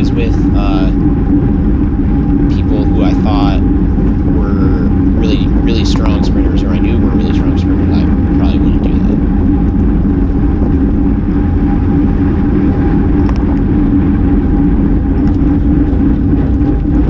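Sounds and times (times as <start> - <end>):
constant low hum: 0.0 - 17.0
road noise: 0.0 - 17.0
wind rush: 0.0 - 17.0.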